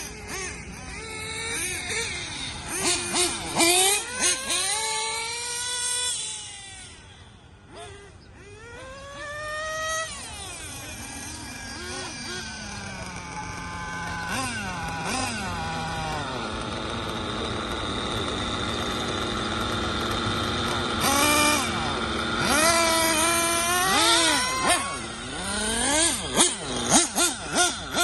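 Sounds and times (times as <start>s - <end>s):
rc car engines revving: 0.0s - 28.0s.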